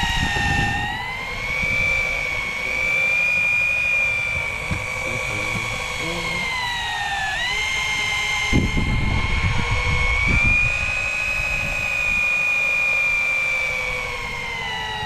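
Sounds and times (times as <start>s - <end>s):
motor whining at high pitch: 0.0s - 15.0s.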